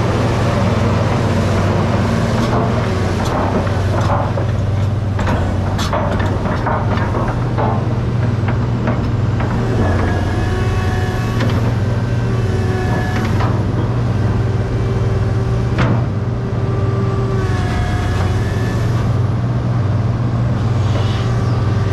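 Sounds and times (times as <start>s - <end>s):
excavator engine humming: 0.0s - 21.9s
hydraulics whining: 0.0s - 21.9s.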